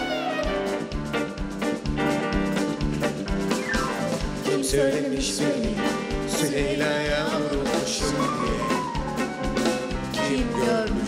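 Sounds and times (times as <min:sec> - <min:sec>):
live band with violins: 0:00.0 - 0:11.0.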